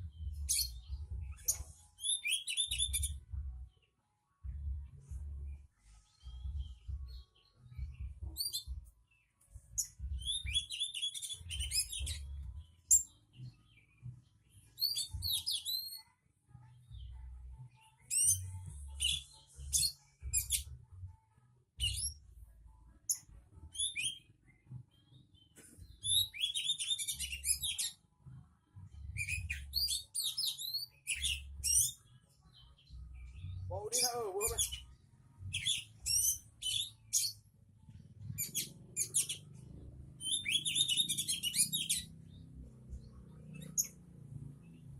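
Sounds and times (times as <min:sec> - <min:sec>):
songbird chirping and trilling: 0:00.0 - 0:44.9.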